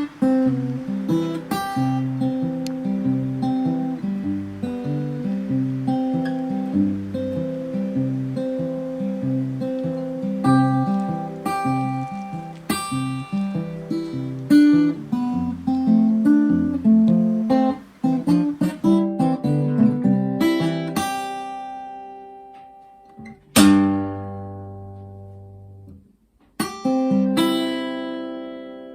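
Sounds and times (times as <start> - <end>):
acoustic guitar playing: 0.0 - 26.0, 26.6 - 28.9.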